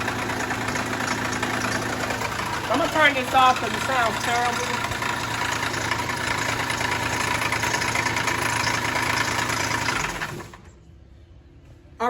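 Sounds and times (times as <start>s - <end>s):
car engine rough rumbling: 0.0s - 10.7s.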